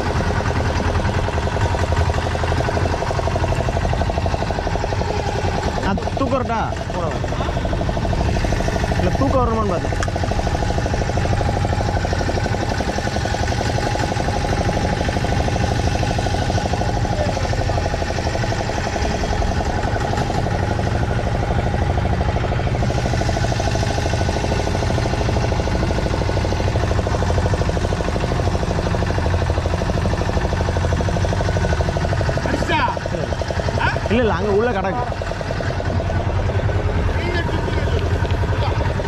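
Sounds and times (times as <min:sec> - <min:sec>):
boat engine droning: 0:00.0 - 0:39.0.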